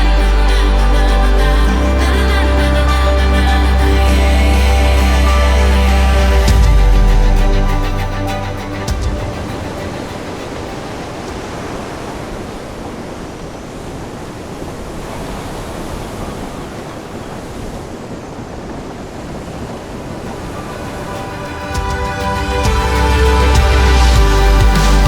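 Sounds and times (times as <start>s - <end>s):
rushing sea and wind: 0.0s - 25.0s.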